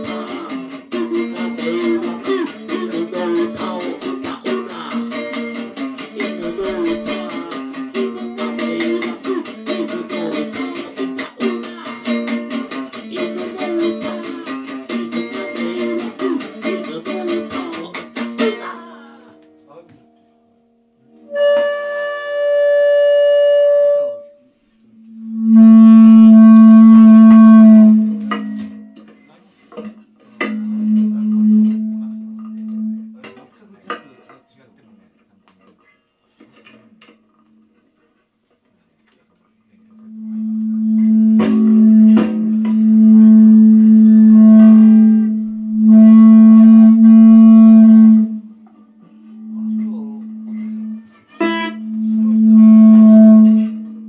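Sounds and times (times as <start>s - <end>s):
electric guitar held notes: 0.0s - 29.2s, 29.8s - 33.4s, 39.9s - 54.0s.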